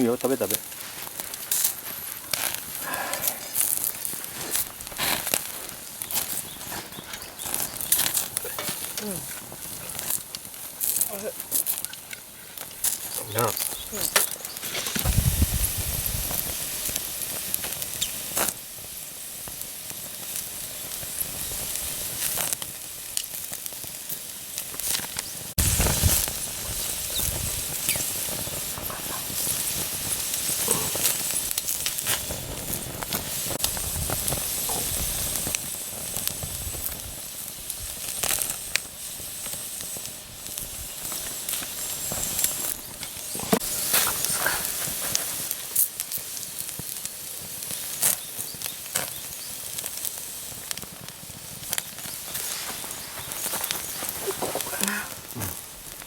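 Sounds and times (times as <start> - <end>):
burning wood popping: 0.0 - 56.0
skewers sizzling over fire: 0.0 - 56.0.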